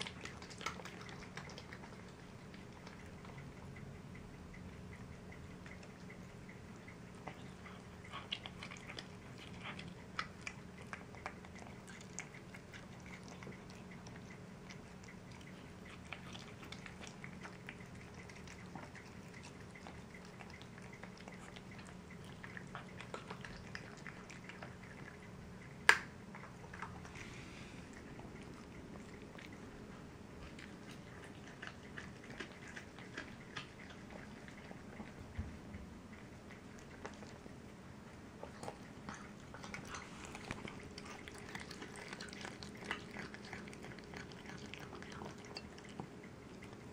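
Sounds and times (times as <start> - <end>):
cats chewing raw chicken: 0.0 - 46.9.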